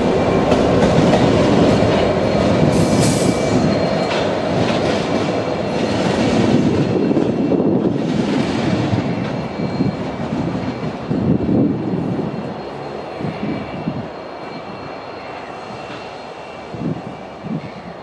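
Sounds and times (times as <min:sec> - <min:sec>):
diesel locomotives rumbling: 0:00.0 - 0:18.0.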